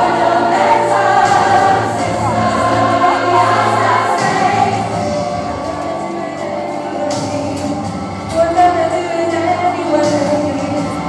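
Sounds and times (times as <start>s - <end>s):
large choir singing: 0.0s - 11.0s.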